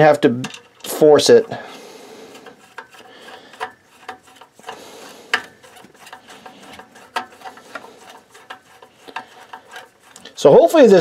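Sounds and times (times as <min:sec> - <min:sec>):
screwdriver clicking on metal: 0:00.2 - 0:01.6, 0:02.3 - 0:10.4.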